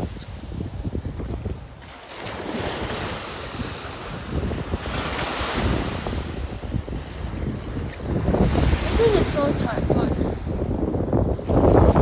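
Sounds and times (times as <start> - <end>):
small waves washing onto sand: 0.0 - 12.0
wind buffeting microphone: 0.0 - 12.0.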